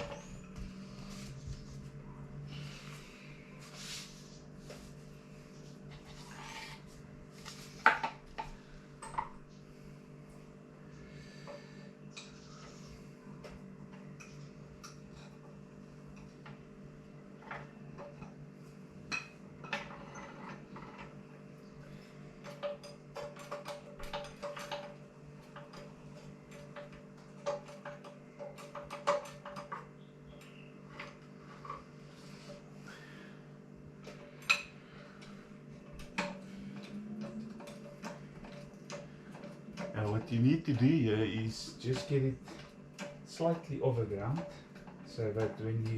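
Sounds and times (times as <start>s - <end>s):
steady electrical hum: 0.0s - 45.9s.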